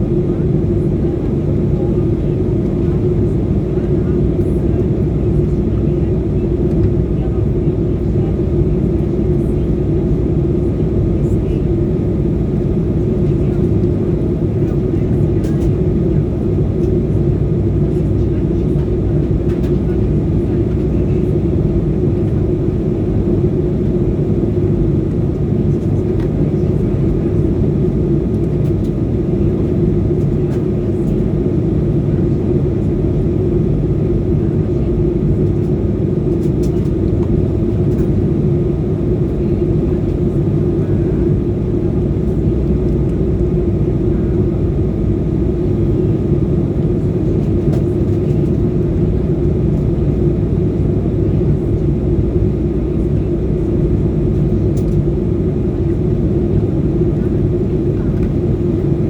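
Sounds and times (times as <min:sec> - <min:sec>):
airliner cabin drone: 0:00.0 - 0:59.0.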